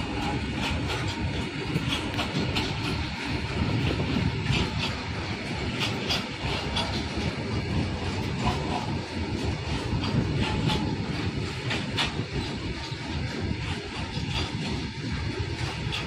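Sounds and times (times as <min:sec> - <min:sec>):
steel wheels rumbling on rail: 0:00.0 - 0:16.0
wheel clicks and clatter: 0:00.0 - 0:16.0.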